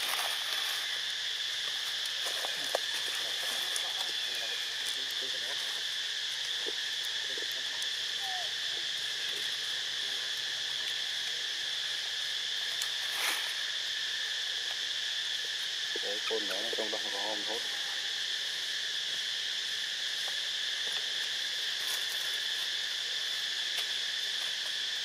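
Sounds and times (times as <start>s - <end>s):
insects chorus drone: 0.0s - 25.0s.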